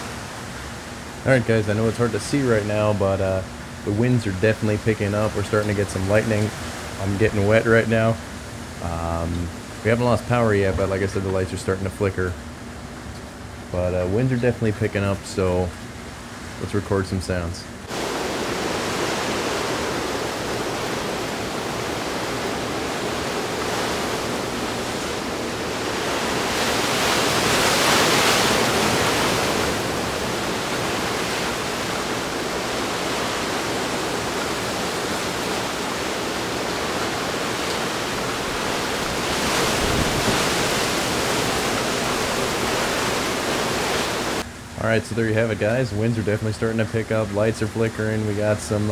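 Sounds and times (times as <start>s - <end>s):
wind-driven rain: 0.0s - 48.9s.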